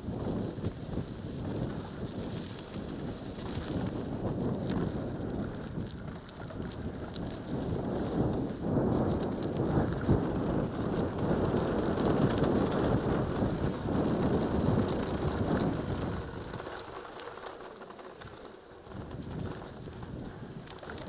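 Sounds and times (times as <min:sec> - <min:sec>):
bike tyres crunching over gravel: 0:00.0 - 0:21.0
wind rushing over microphone: 0:00.0 - 0:21.0.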